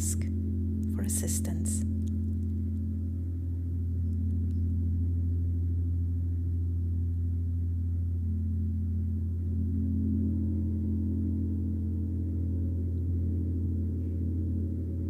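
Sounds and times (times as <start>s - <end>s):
gong droning: 0.0s - 15.0s.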